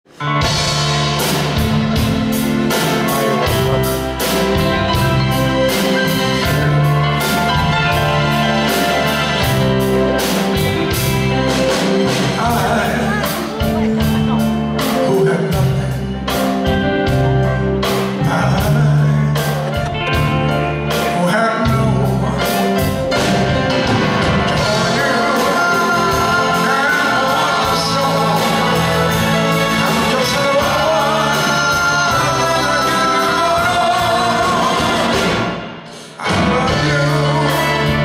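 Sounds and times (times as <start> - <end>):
drums: 0.0 - 38.0
electric guitar: 0.1 - 38.0
male lead singer: 0.2 - 38.0.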